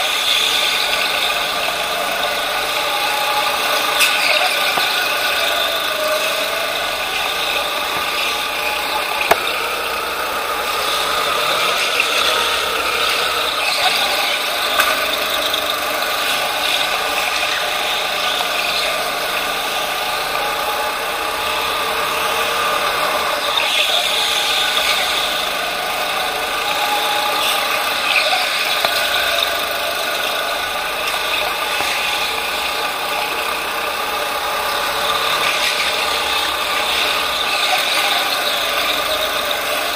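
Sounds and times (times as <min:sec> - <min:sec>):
kart engine rattling: 0:00.0 - 0:39.9.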